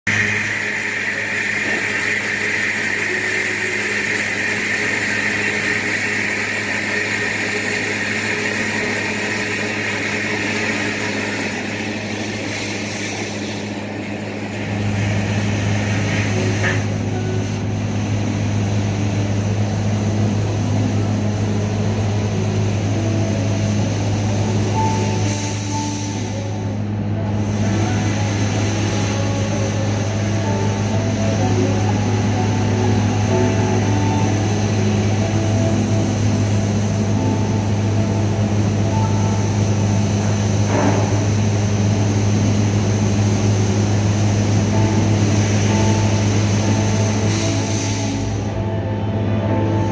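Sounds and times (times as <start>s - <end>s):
machine hum with hiss: 0.1s - 49.9s.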